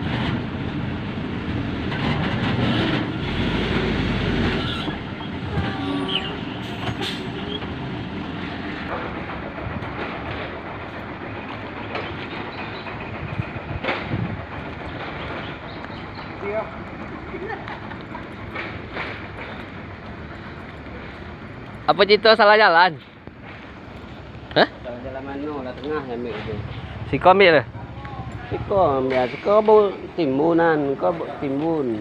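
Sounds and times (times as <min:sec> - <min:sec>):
heavy vehicle engine: 0:00.0 - 0:32.0
road noise: 0:00.0 - 0:32.0.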